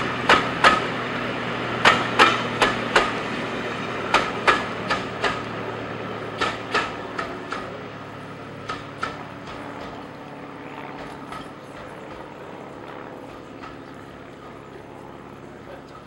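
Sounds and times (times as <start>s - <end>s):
train wheels clicking over rail joints: 0.0s - 14.7s
train rolling rumble: 0.0s - 16.0s.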